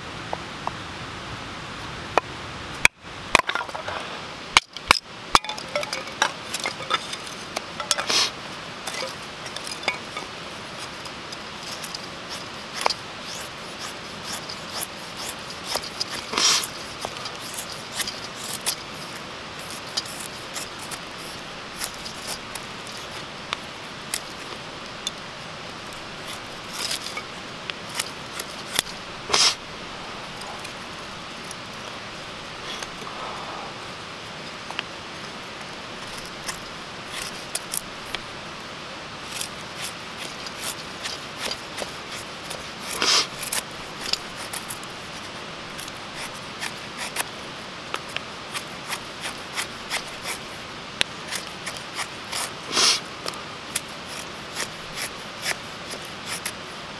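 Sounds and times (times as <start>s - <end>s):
knife scraping wood: 5.4s - 33.9s, 36.0s - 38.3s, 39.2s - 56.8s.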